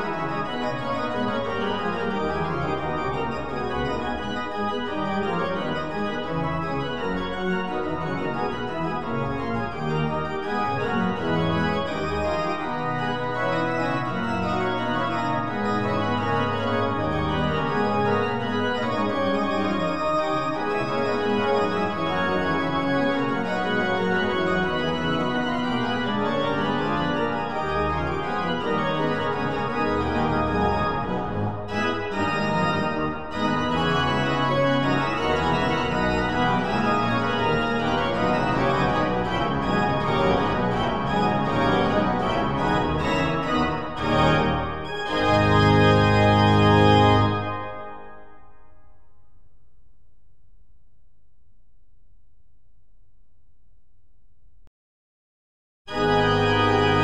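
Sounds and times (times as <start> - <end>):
organ playing slow chords: 0.0 - 48.5, 55.9 - 57.0.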